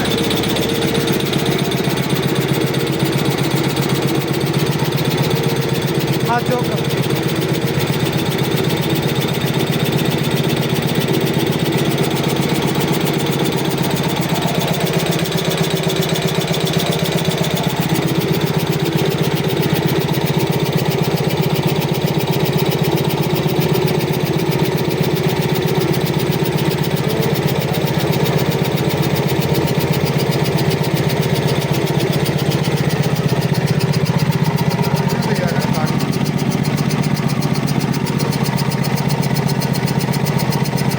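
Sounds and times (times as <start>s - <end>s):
air compressor pulsing: 0.0s - 40.9s.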